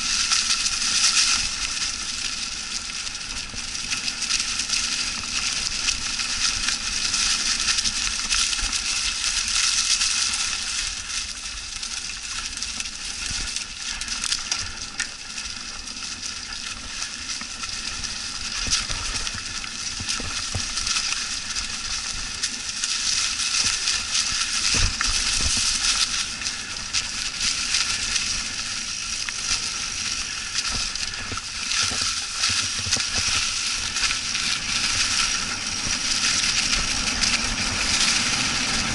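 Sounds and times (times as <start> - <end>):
bike tyres rolling through dry leaves: 0.0 - 38.9.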